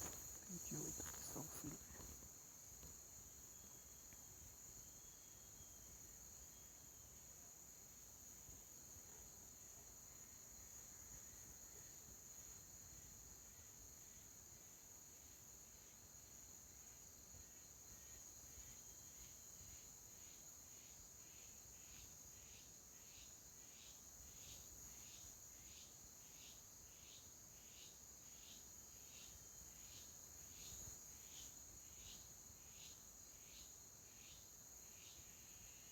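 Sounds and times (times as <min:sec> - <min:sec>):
insect chirping: 0:00.0 - 0:35.9.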